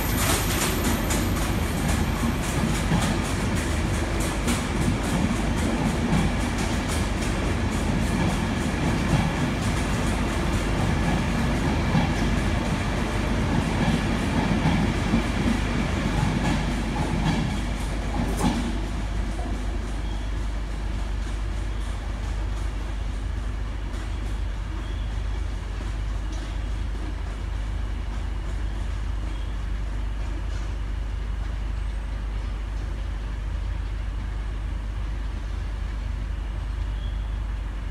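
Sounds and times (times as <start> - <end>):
train coaches rumbling past: 0.0 - 37.9.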